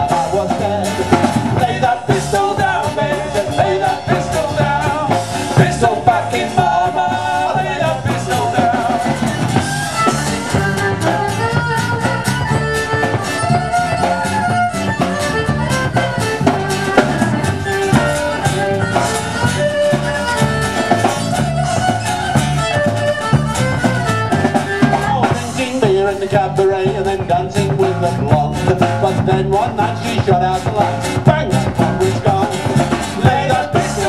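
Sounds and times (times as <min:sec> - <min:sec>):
drum kit beat: 0:00.0 - 0:34.0
fiddle: 0:00.0 - 0:34.0
guitar: 0:00.0 - 0:34.0.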